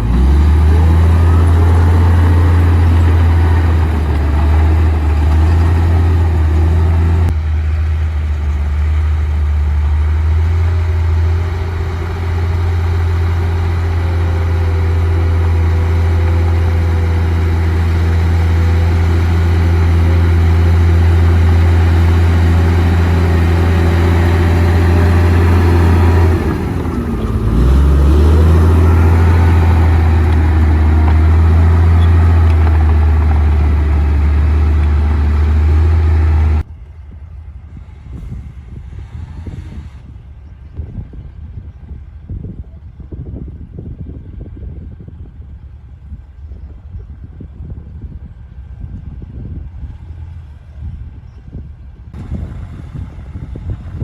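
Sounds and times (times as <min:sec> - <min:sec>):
bulldozer diesel engine humming: 0:00.0 - 0:54.0.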